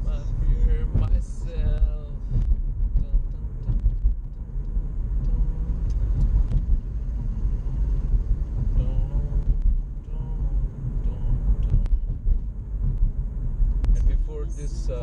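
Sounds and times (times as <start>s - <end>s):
car cabin road rumble: 0.0s - 15.0s.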